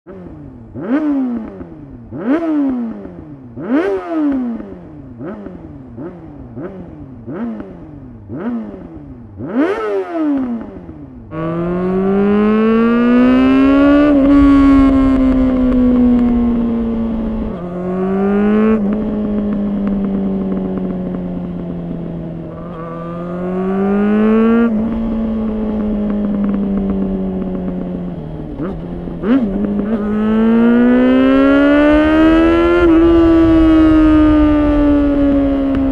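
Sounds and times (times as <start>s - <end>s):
motorcycle riding on road: 0.0s - 35.9s
motorcycle engine revving: 0.1s - 35.9s.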